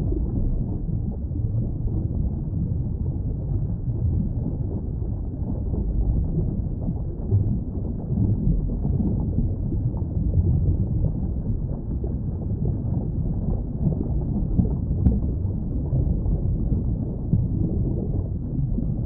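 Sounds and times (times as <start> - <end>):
muffled underwater rumble: 0.0 - 19.0.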